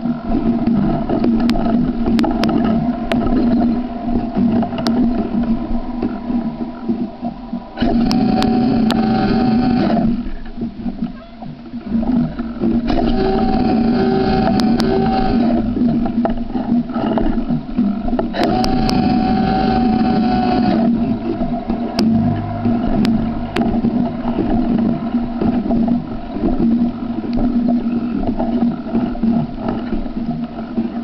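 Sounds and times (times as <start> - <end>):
steady low hum: 0.0 - 31.0
electric motor whining: 0.4 - 30.0.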